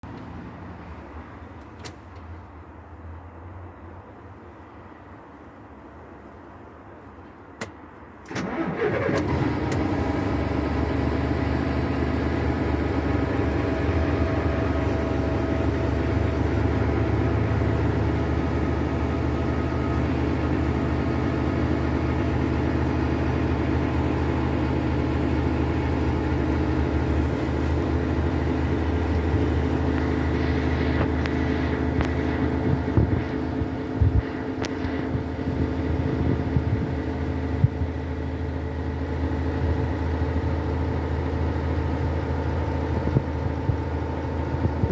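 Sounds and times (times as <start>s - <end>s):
diesel engine running: 7.8s - 44.9s.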